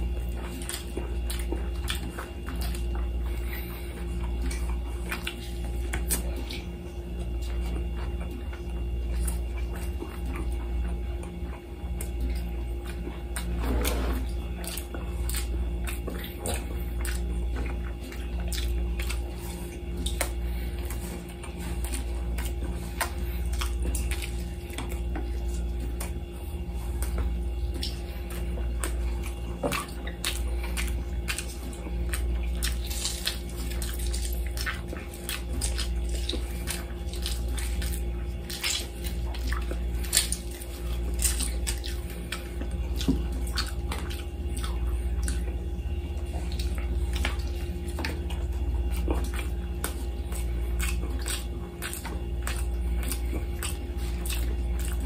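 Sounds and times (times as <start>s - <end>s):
steady low hum: 0.0s - 55.0s
wet chewing and mouth smacks: 0.0s - 55.0s.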